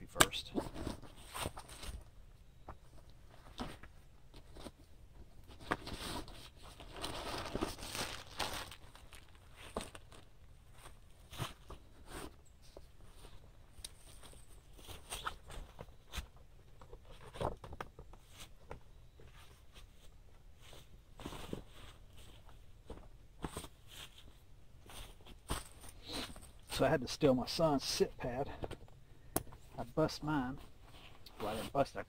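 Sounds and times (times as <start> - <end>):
camping gear rustling and knocking: 0.2 - 26.9, 27.9 - 31.9.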